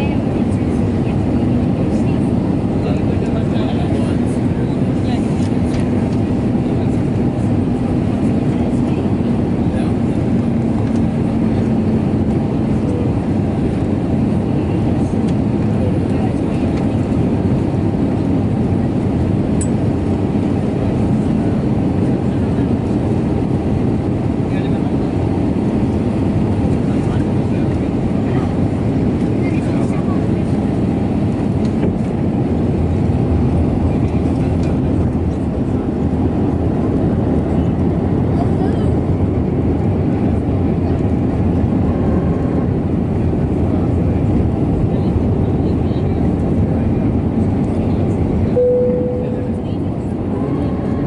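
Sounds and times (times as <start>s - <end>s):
aircraft engine and airflow rumble: 0.0s - 51.0s.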